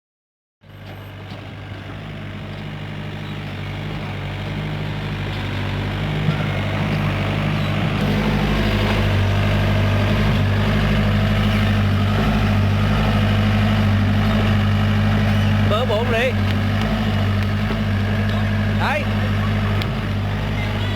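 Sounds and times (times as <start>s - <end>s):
excavator diesel engine running: 0.6s - 20.9s.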